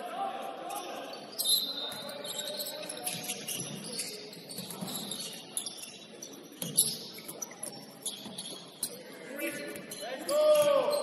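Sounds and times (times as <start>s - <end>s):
sneakers squeaking: 0.8s - 11.0s.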